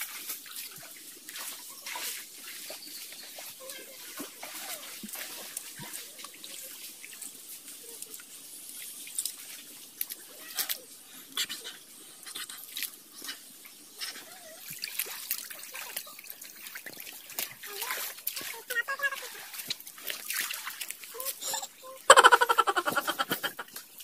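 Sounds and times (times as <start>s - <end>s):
splashes in water: 0.0s - 11.6s, 12.4s - 24.0s
stream trickling over stones: 0.0s - 24.0s.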